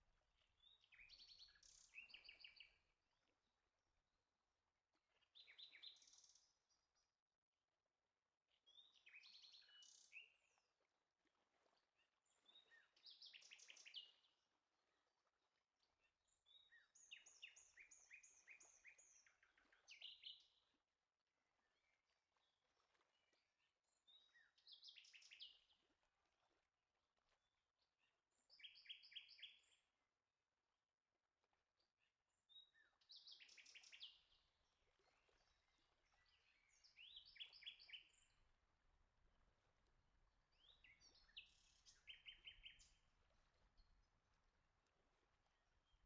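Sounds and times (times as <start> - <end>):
faint bird song: 0.0 - 3.6, 5.0 - 7.2, 8.4 - 26.5, 27.1 - 30.2, 31.6 - 46.0.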